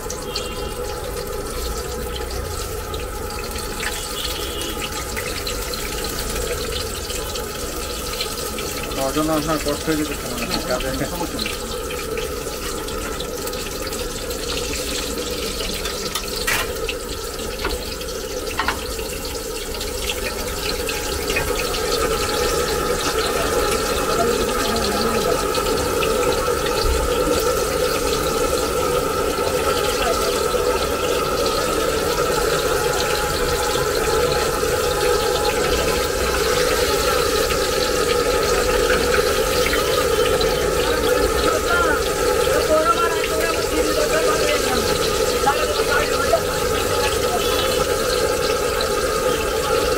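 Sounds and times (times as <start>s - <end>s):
deep-frying oil sizzling: 0.0s - 49.9s.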